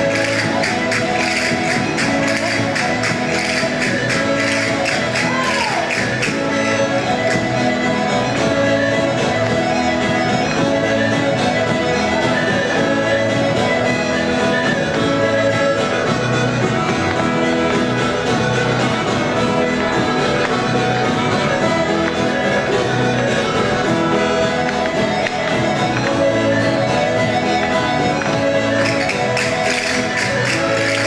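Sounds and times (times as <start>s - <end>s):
folk dance music: 0.0s - 31.0s.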